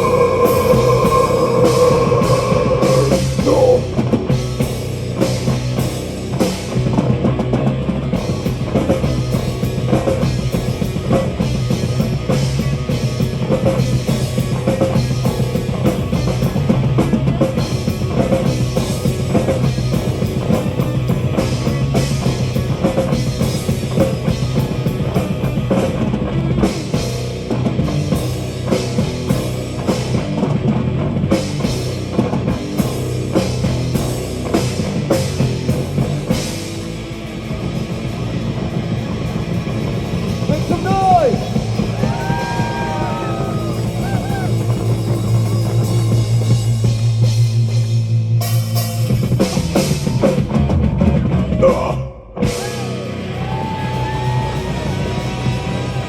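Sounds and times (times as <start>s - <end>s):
drum kit with cymbals: 0.0s - 56.0s
heavy guitar and bass notes: 0.0s - 56.0s.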